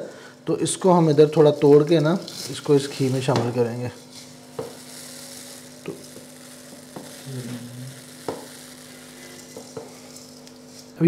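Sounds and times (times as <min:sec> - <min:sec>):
dry noodles crackling: 0:01.0 - 0:11.0.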